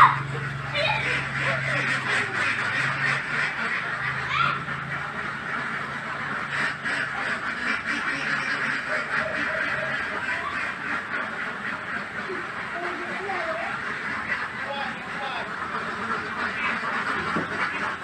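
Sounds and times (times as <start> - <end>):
rasping animal chatter: 0.0 - 18.0.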